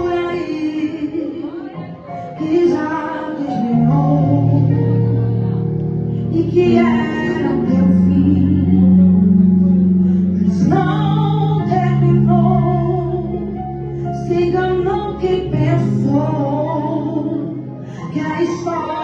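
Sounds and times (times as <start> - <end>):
woman singing: 0.0 - 5.2, 6.2 - 9.2, 10.3 - 19.0.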